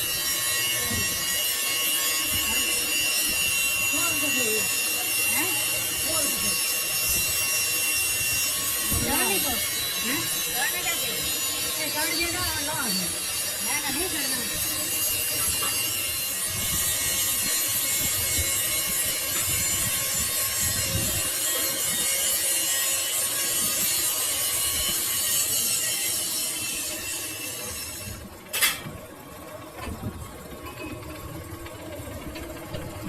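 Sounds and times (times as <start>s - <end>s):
lathe cutting metal: 0.0s - 29.6s.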